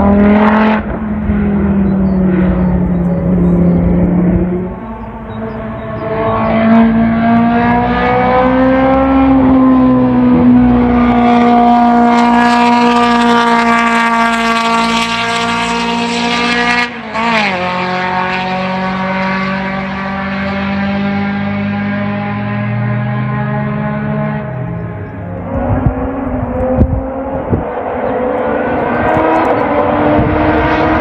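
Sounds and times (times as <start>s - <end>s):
race car engine at high revs: 0.0s - 31.0s.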